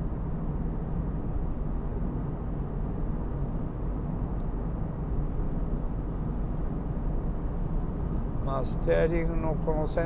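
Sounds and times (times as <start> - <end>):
quiet diesel engine: 0.0 - 10.0.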